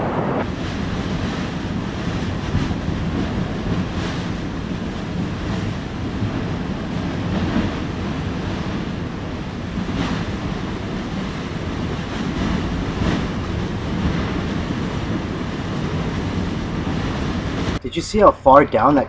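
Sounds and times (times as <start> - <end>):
lava roaring and churning: 0.0 - 17.8
wind buffeting microphone: 0.0 - 19.0.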